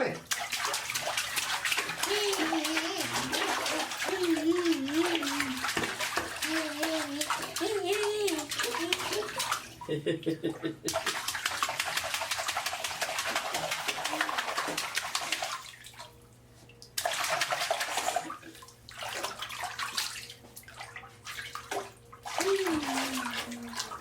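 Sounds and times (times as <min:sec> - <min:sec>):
water splashing in a bathtub: 0:00.0 - 0:24.0.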